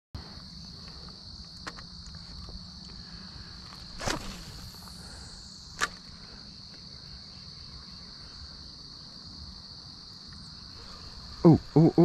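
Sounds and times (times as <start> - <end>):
insects trilling: 0.2 - 12.0.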